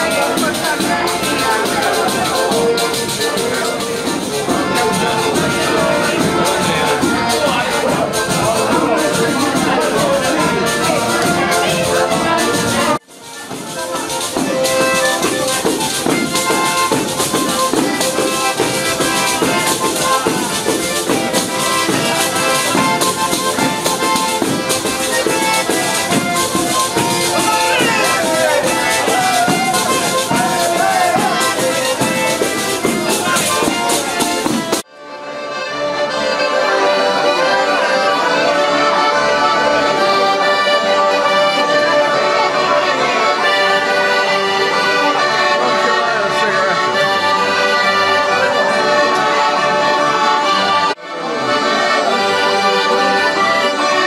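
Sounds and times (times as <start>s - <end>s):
folk dance music: 0.0s - 54.0s.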